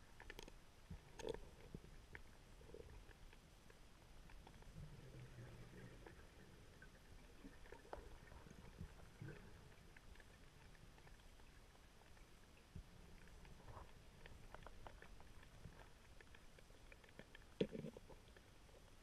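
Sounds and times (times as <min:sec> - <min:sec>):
faint underwater rumble: 0:00.0 - 0:19.0.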